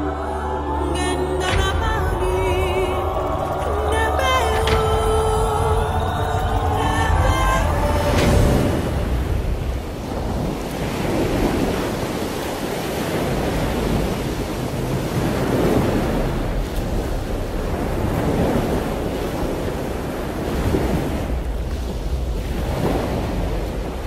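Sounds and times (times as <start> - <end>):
waves crashing: 0.0 - 24.0
wind: 0.0 - 24.0.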